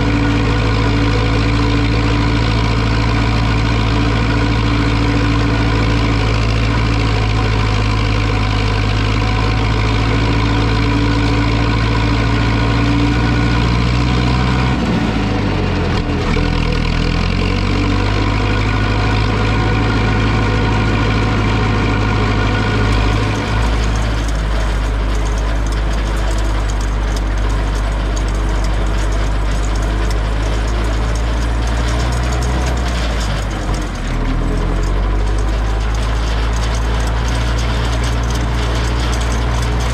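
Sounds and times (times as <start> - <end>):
rough noisy sound: 0.0 - 39.9
tractor diesel engine running: 0.0 - 39.9.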